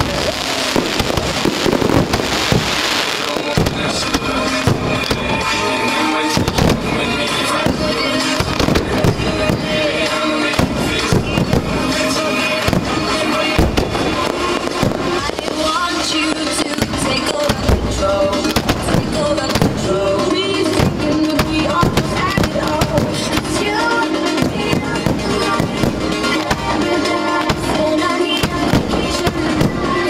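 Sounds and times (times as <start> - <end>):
firework shells bursting: 0.0 - 30.0
music: 0.0 - 30.0.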